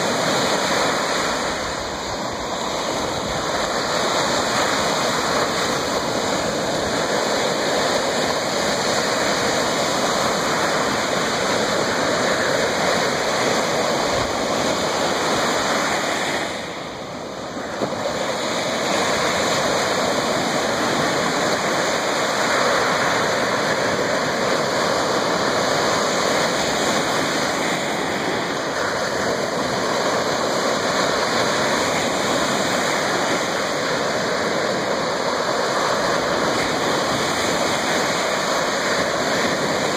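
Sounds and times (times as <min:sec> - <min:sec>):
surf washing on shore: 0:00.0 - 0:39.9.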